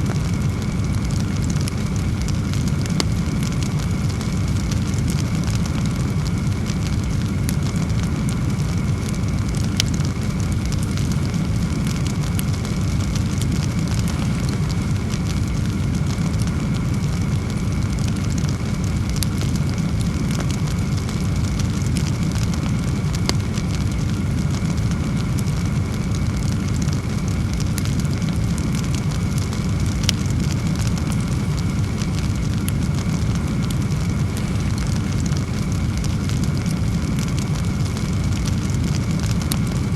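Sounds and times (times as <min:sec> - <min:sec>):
fire crackles and pops: 0:00.0 - 0:39.9
flame rushing: 0:00.0 - 0:39.9.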